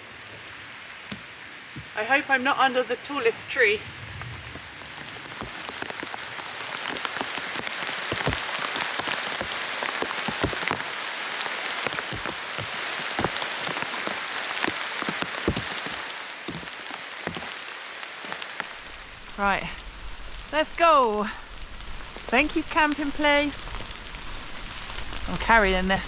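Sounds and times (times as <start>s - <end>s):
heavy rain hissing: 0.0s - 25.6s.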